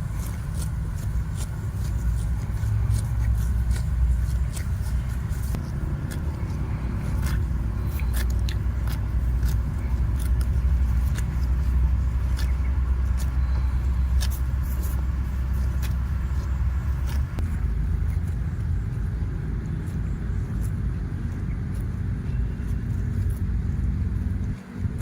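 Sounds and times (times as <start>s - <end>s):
cattle hooves on a road: 0.0s - 25.0s
low rumble: 0.0s - 25.0s.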